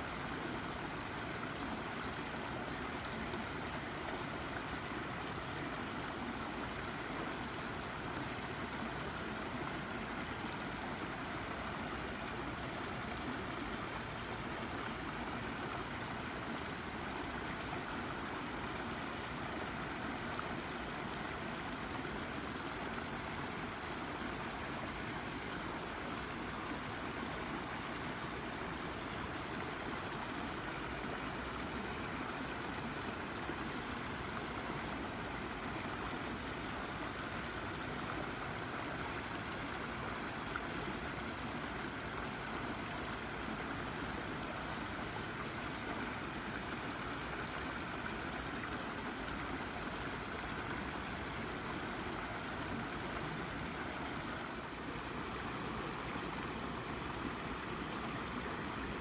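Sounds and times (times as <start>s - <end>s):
brook babbling over rock: 0.0s - 59.0s.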